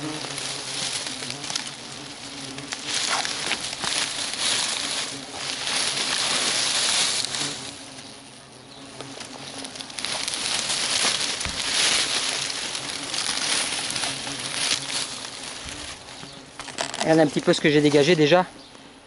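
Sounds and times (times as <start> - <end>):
dry leaves rustling and crackling: 0.0 - 18.4
hornets buzzing: 0.0 - 19.0.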